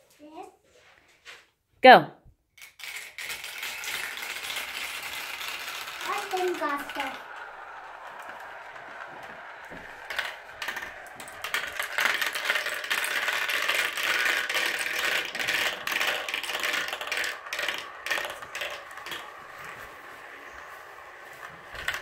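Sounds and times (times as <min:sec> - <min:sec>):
marbles rattling down a marble run: 0:02.6 - 0:22.0.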